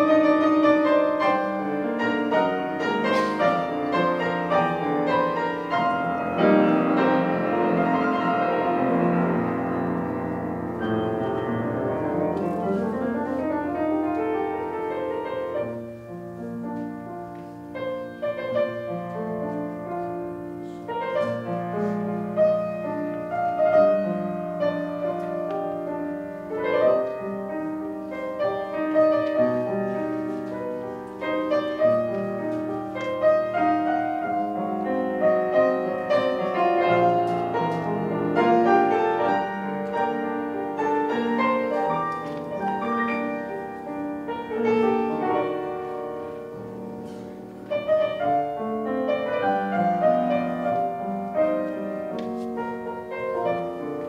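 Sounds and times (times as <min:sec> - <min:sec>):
grand piano playing: 0:00.0 - 0:54.0.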